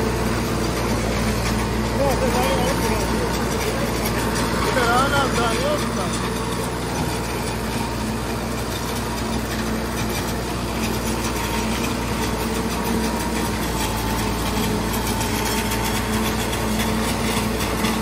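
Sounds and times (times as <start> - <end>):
tractor and chopper humming: 0.0 - 18.0.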